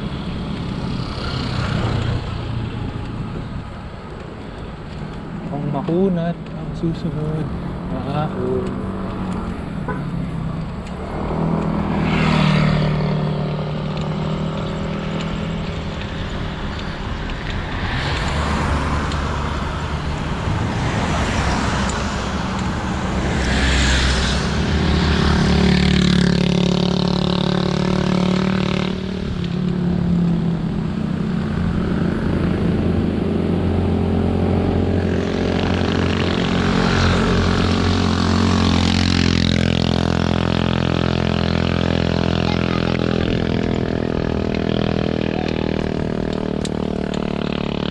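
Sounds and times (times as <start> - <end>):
low steady traffic hum: 0.0 - 47.9.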